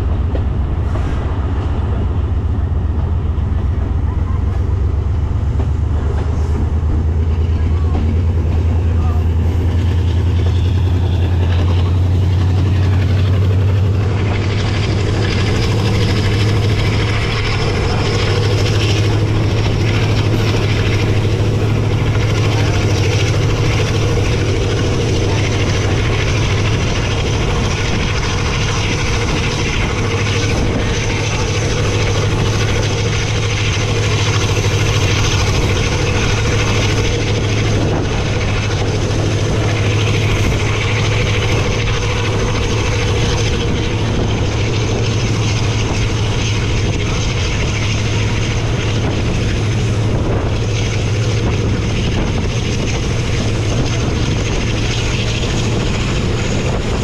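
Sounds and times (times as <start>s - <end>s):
train running at high speed: 0.0s - 57.0s.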